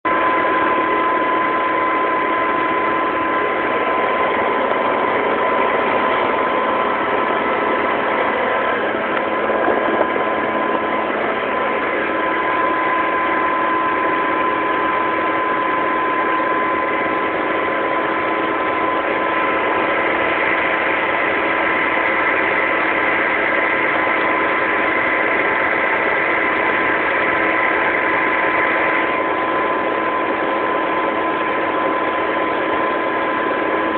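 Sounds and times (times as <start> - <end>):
combine harvester engine running: 0.1 - 33.9
high-pitched whine: 0.1 - 33.9.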